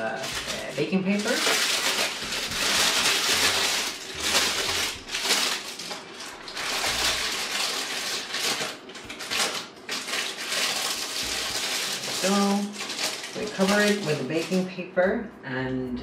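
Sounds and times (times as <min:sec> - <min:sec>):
baking paper crinkling: 0:00.0 - 0:14.8.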